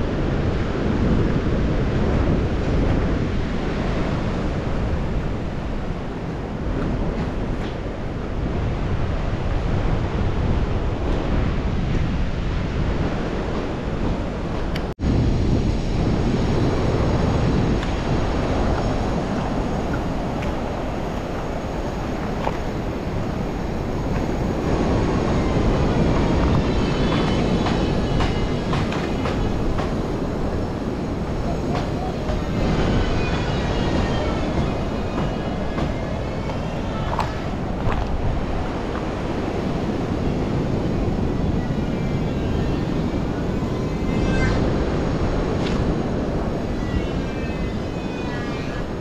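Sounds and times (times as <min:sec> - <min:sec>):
strong wind buffeting microphone: 0:00.0 - 0:49.0.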